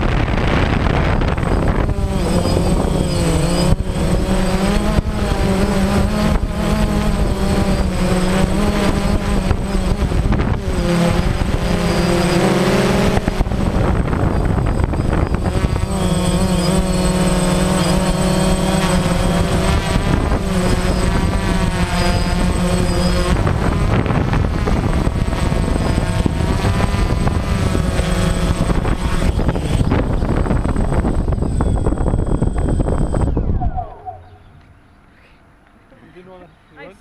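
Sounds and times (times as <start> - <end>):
drone motors and propellers buzzing: 0.0 - 35.8.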